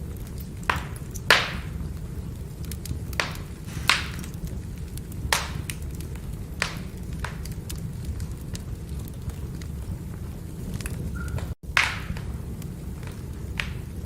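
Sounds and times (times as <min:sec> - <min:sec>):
firewood burning rumble: 0:00.0 - 0:14.0
wood popping and snapping: 0:00.2 - 0:01.9, 0:02.6 - 0:09.7, 0:10.7 - 0:14.0.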